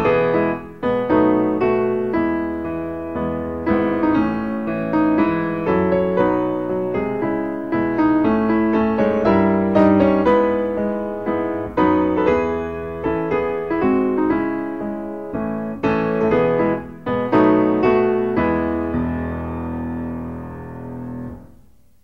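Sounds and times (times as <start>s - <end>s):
piano playing slow chords: 0.0s - 21.7s.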